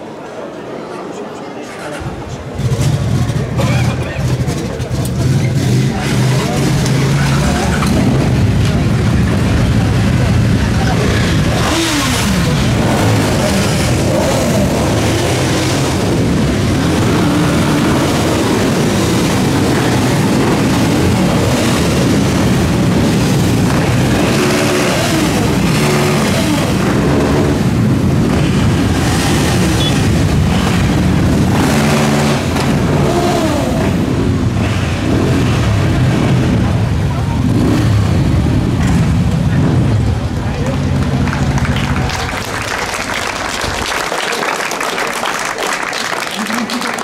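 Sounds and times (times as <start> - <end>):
motorcycle engines revving: 1.9 - 44.1.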